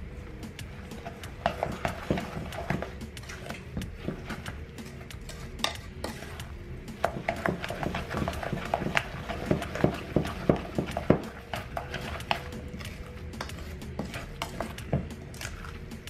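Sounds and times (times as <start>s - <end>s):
background music: 0.0s - 16.0s
spoon scraping metal bowl: 0.4s - 16.0s.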